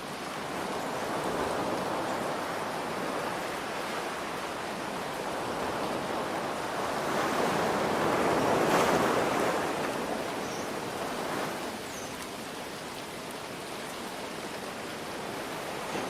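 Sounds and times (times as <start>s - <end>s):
ocean wave washing: 0.0s - 13.3s.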